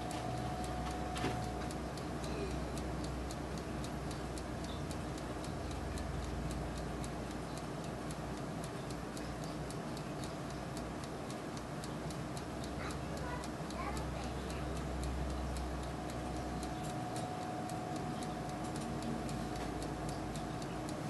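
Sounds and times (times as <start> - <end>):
fast even ticking: 0.0 - 21.0
oven fan humming: 0.0 - 21.0.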